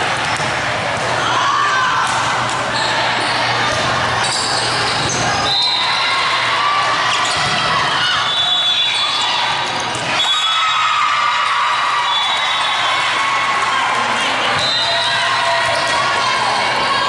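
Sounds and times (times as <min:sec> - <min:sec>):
echoing voices in hall: 0:00.0 - 0:17.0.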